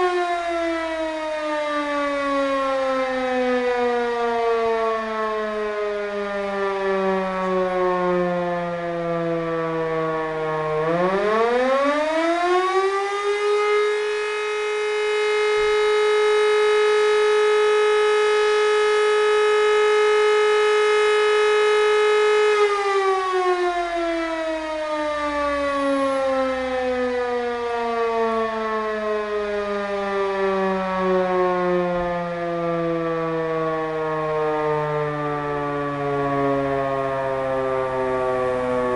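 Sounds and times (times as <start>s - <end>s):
rotor siren wailing: 0.0s - 38.9s.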